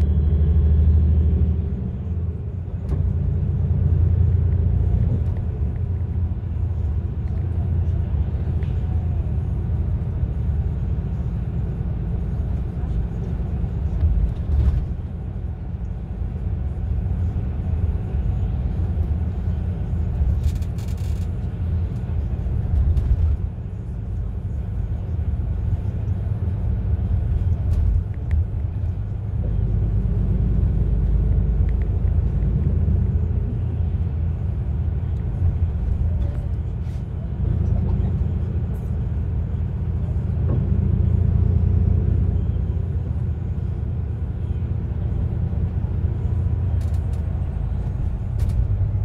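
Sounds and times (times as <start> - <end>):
bus engine and tyre rumble: 0.0 - 49.0.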